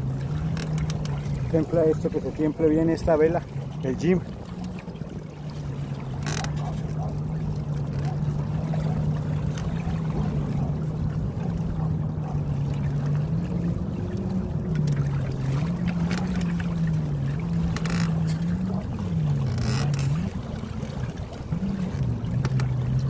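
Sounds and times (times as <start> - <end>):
low wavering hum: 0.0 - 23.0
water rushing past hulls: 0.0 - 23.0.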